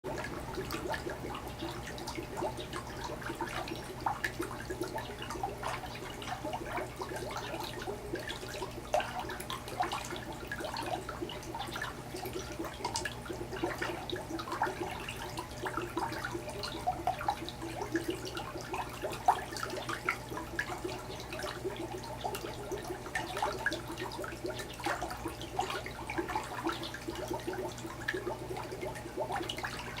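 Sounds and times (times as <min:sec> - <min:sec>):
constant low hum: 0:00.1 - 0:30.0
water bubbling and trickling: 0:00.1 - 0:30.0.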